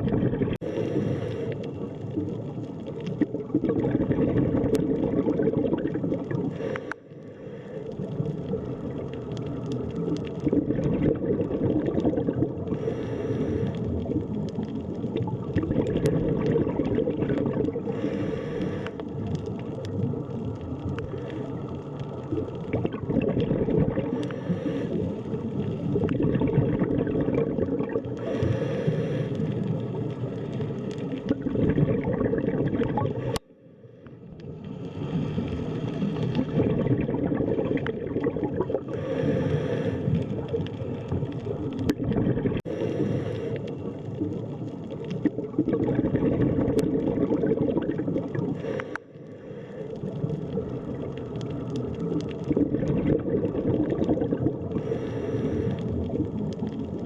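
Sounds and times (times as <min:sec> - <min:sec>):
underwater gurgling rush: 0:00.0 - 0:57.0.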